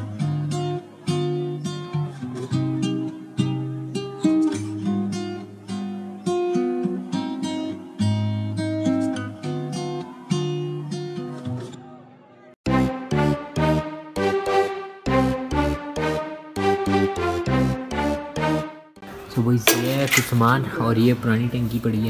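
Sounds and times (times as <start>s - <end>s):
acoustic guitar music: 0.0s - 21.1s.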